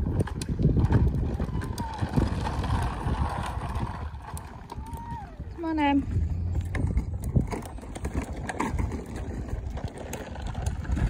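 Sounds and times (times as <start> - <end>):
plastic wheels rolling on concrete: 0.0 - 11.0.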